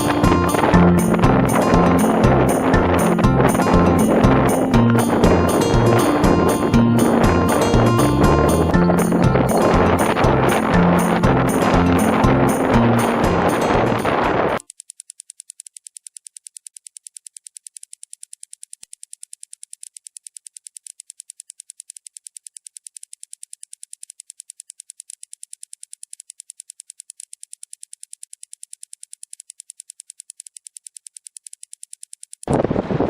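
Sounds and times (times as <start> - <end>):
rapid high ticking: 0.0 - 32.5.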